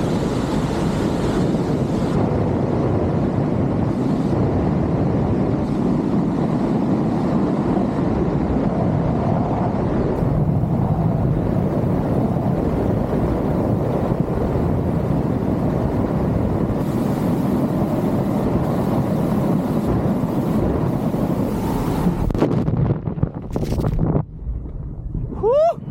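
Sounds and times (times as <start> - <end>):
wind rushing over microphone: 0.0 - 25.9.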